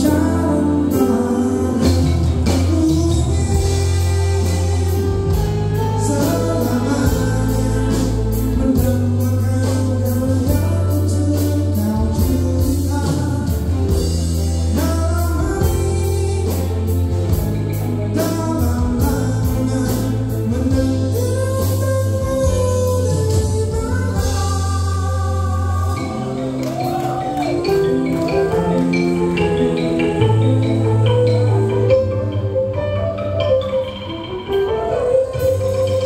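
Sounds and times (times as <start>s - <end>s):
man singing: 0.0s - 32.8s
drums: 0.0s - 36.0s
electric bass: 0.0s - 36.0s
keyboards: 0.0s - 36.0s.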